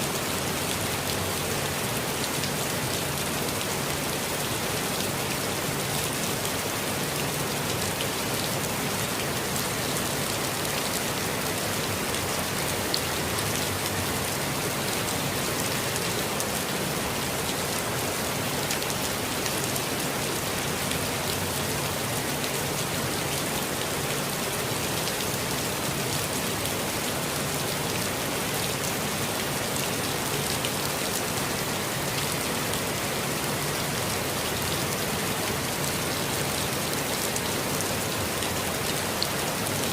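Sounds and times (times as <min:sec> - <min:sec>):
raindrops ticking on surfaces: 0:00.0 - 0:39.9
steady rain falling: 0:00.0 - 0:39.9.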